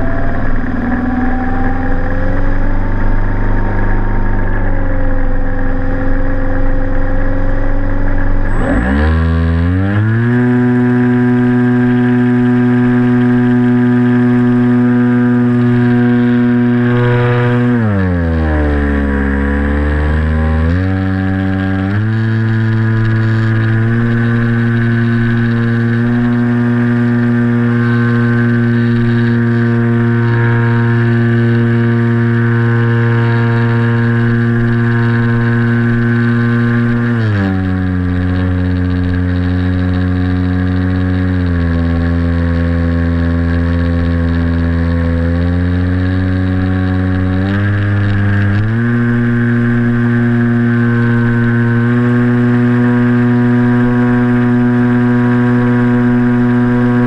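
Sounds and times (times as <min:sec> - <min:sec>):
small propeller motor whirring: 0:00.0 - 0:57.0.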